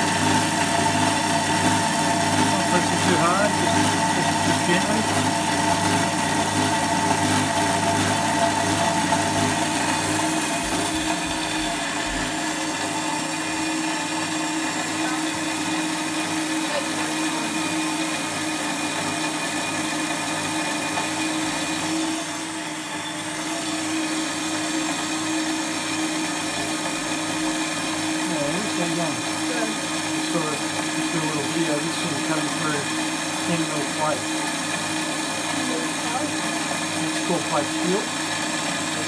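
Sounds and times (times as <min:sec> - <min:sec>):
bandsaw cutting steel: 0:00.0 - 0:39.0.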